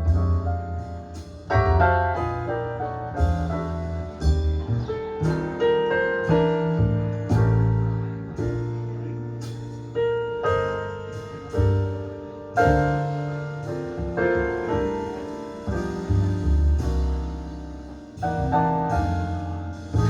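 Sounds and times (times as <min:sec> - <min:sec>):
slow jazz piano ballad: 0:00.0 - 0:20.0.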